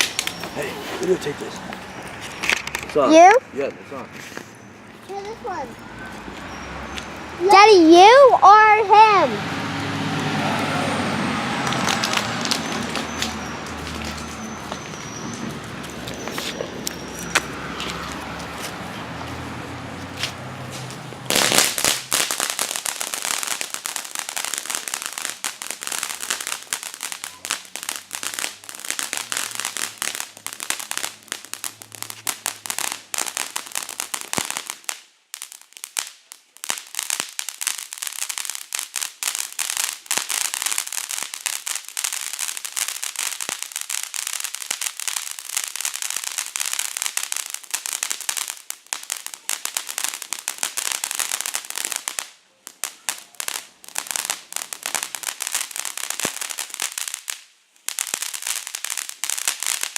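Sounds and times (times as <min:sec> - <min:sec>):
firework crackling: 0:00.0 - 0:59.9.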